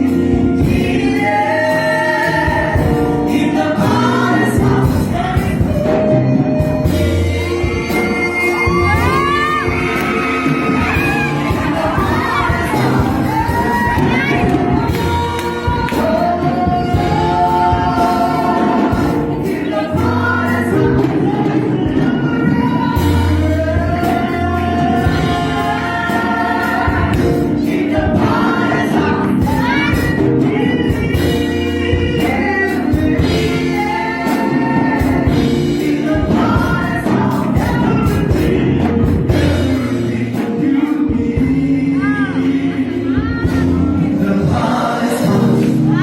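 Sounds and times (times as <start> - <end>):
choir singing: 0.0 - 46.0
steady bass: 0.0 - 46.0.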